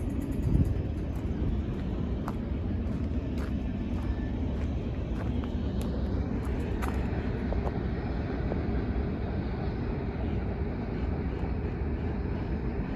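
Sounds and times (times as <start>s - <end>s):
freight train rolling past: 0.0s - 12.9s.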